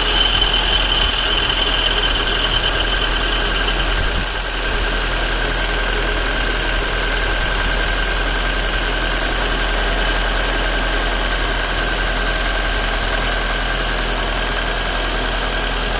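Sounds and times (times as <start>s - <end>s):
engine idling with knock: 0.0s - 15.9s.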